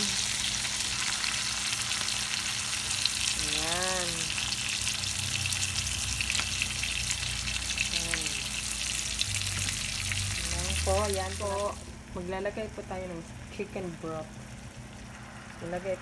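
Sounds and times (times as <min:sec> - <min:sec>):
chicken frying in oil: 0:00.0 - 0:16.0.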